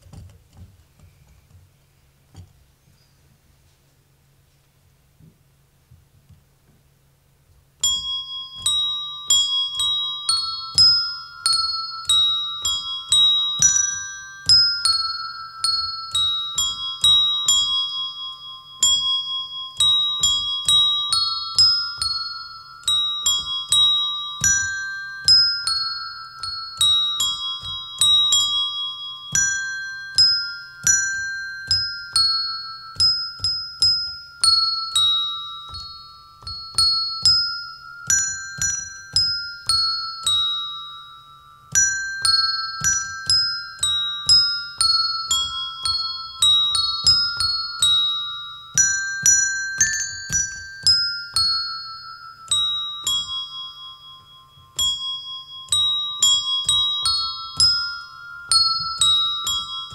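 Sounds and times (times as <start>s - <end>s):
desk bells playing a melody: 7.6s - 59.9s.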